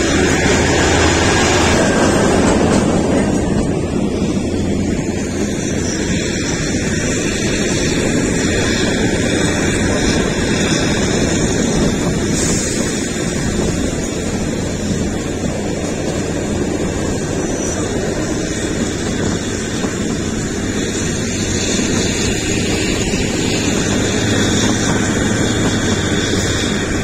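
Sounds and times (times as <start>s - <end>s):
train rumbling on the move: 0.0s - 27.0s
wind buffeting microphone: 0.0s - 27.0s.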